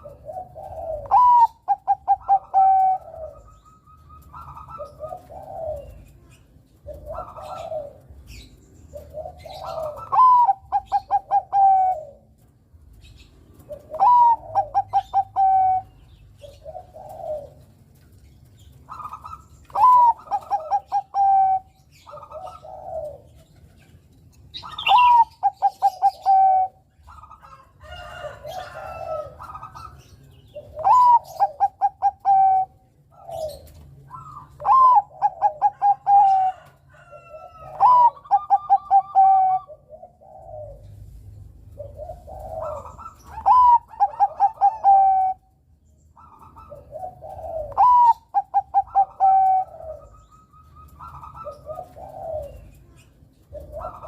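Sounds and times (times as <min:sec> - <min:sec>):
dove cooing: 0:00.0 - 0:54.0
soft bird calls: 0:00.0 - 0:54.0.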